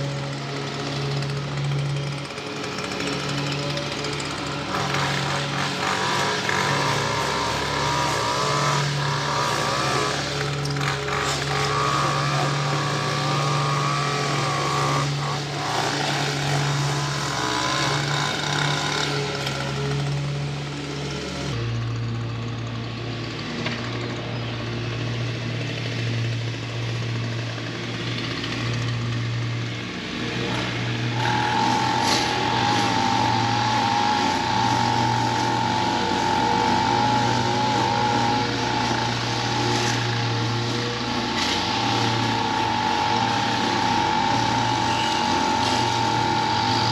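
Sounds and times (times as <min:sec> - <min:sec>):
high engine whine: 0:00.0 - 0:46.9
small gasoline engines running: 0:00.0 - 0:46.9.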